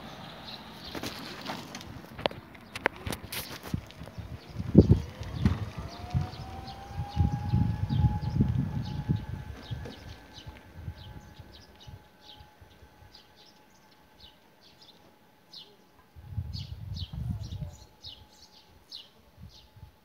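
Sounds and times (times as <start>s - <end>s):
small birds chirping: 0.0s - 1.7s, 2.3s - 19.8s
low rumbling on the microphone: 2.0s - 14.4s, 16.1s - 20.0s.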